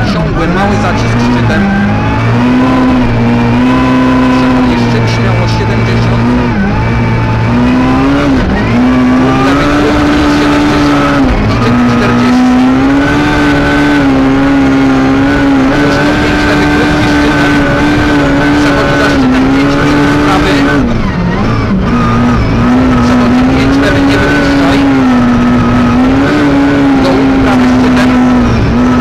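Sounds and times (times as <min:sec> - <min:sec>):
rally car engine at high revs: 0:00.0 - 0:29.0.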